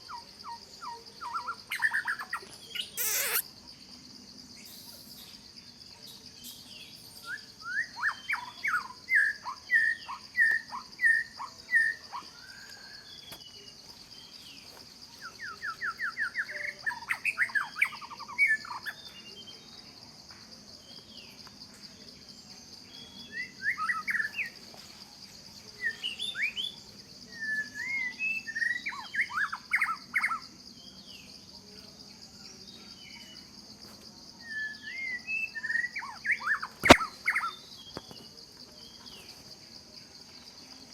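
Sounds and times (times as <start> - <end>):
high insect drone: 0.0 - 40.9
songbird singing: 0.0 - 40.9.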